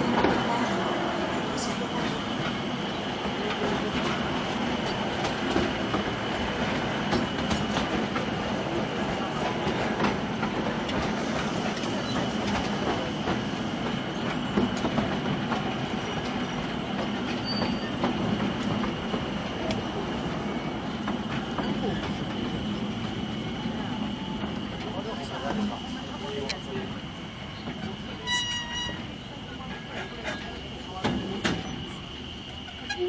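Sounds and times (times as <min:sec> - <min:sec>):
small train running: 0:00.0 - 0:33.0.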